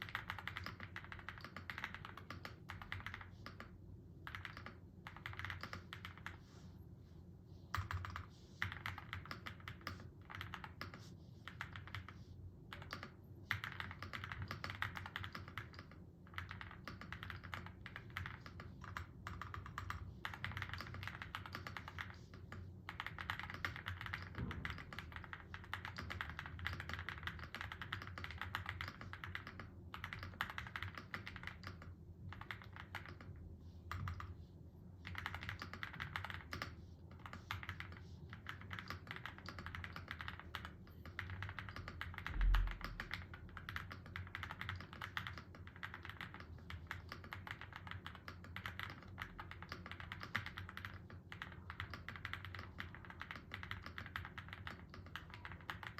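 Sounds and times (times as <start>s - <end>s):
fast typing on mechanical keyboard: 0.0s - 6.4s, 7.7s - 34.3s, 35.0s - 55.9s.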